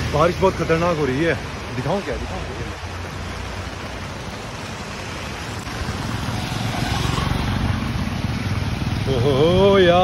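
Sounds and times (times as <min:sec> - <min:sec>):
heavy rain on umbrella: 0:00.0 - 0:10.0.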